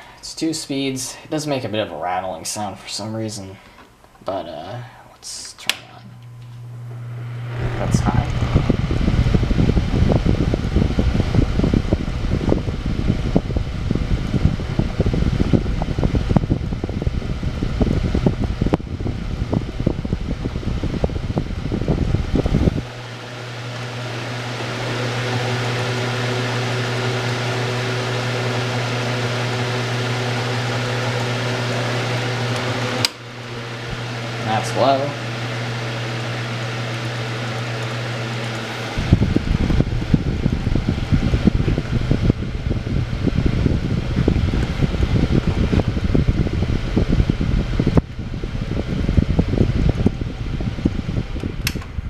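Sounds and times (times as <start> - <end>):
box fan running: 0.0 - 52.0.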